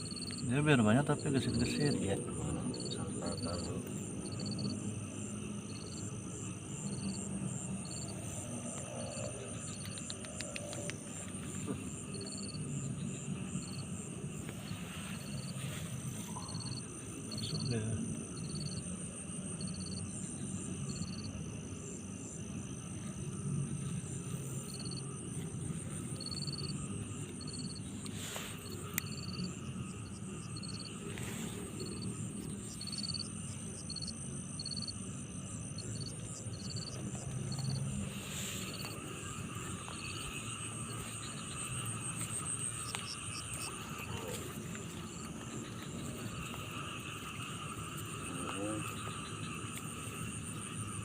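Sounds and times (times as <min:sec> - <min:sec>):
high insect buzz: 0:00.0 - 0:51.0
insects chirping: 0:00.0 - 0:51.0.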